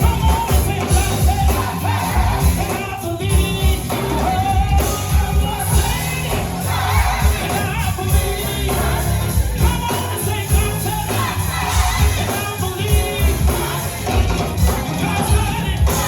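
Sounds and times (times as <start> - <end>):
drums and bass beat: 0.0 - 16.0
gospel choir singing: 0.0 - 16.0.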